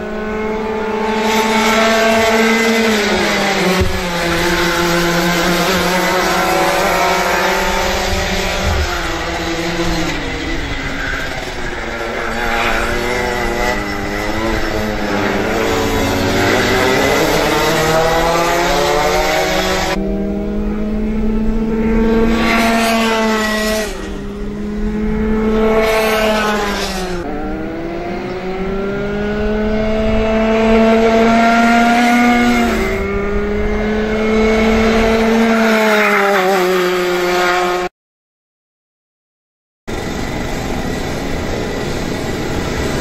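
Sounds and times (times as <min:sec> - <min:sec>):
kart engines screaming: 0:00.0 - 0:37.9.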